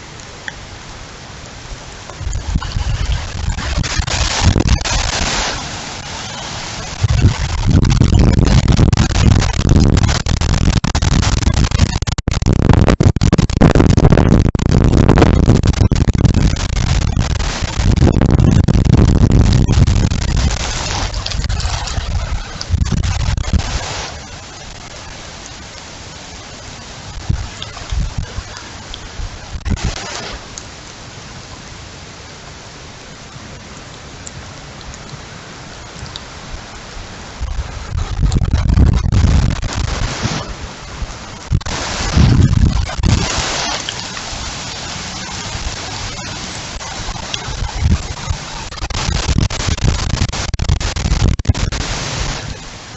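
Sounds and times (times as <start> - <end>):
heavy rain pouring: 0.0 - 52.9
wind buffeting microphone: 2.2 - 25.0, 27.1 - 30.1, 36.0 - 52.7.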